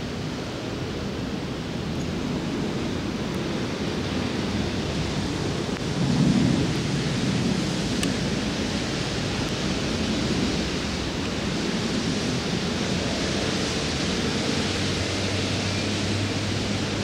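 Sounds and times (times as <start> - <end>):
storm wind rushing: 0.0 - 17.0.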